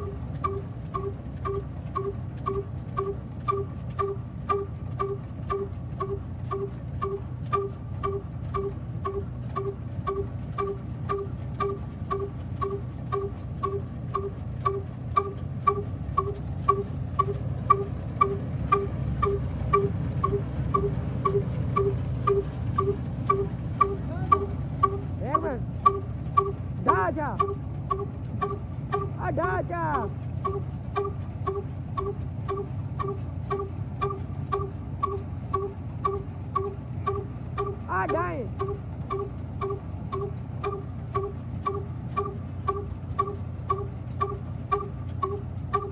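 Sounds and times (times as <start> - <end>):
regular ringing knock: 0.0 - 29.2, 30.0 - 45.9
diesel engine running: 0.0 - 45.9.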